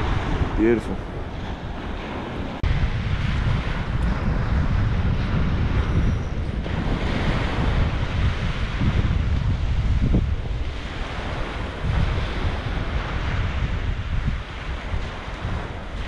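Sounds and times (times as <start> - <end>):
small waves breaking on shore: 0.0 - 16.0
wind buffeting microphone: 0.0 - 16.0.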